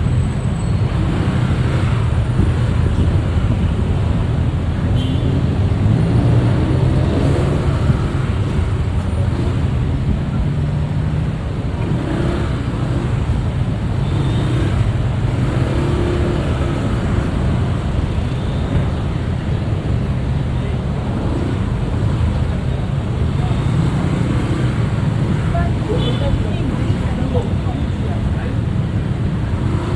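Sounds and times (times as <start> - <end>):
city road traffic: 0.0 - 29.9.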